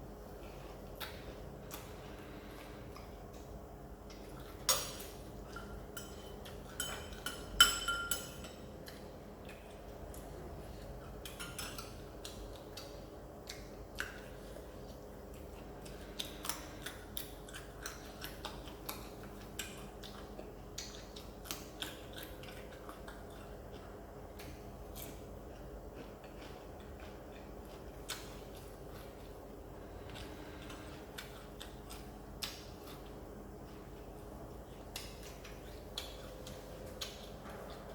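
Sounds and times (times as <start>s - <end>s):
crunchy chewing crackles: 0.0s - 7.5s, 8.6s - 37.9s
faint low hum: 0.0s - 37.9s.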